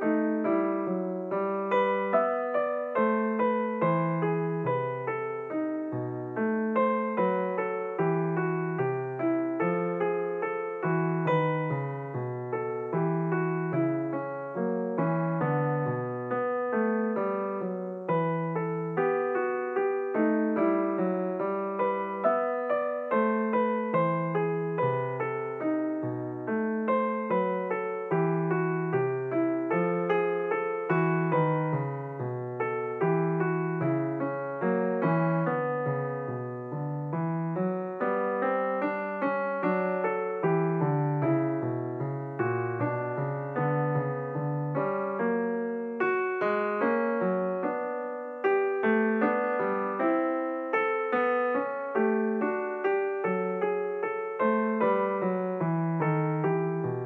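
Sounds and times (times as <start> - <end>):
background piano music: 0.0 - 57.0.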